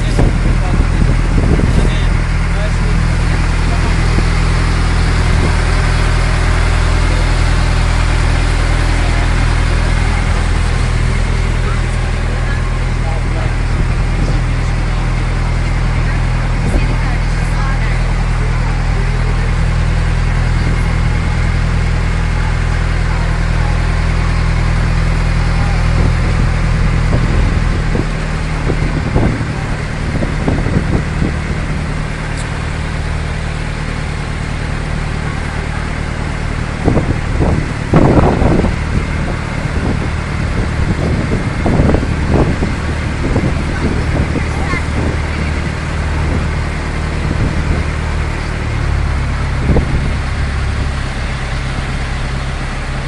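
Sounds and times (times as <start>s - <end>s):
wind noise: 0.0s - 17.4s, 24.3s - 33.5s, 34.9s - 53.0s
boat engine running: 0.0s - 53.0s
water noise: 0.0s - 53.0s.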